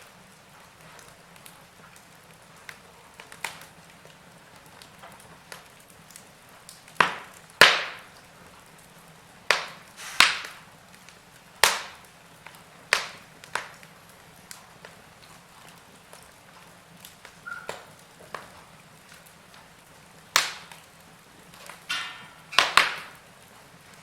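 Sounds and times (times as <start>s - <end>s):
wood fire crackling: 0.0s - 24.0s
sharp fire pops: 0.7s - 24.0s.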